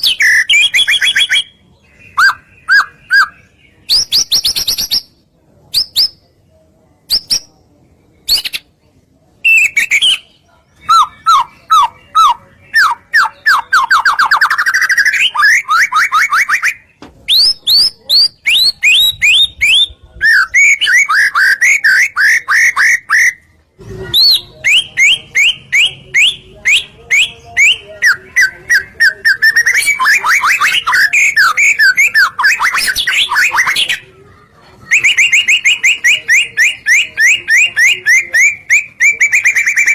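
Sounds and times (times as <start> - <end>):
bird singing varied phrases: 0.0 - 8.8, 9.4 - 34.1, 34.8 - 39.9.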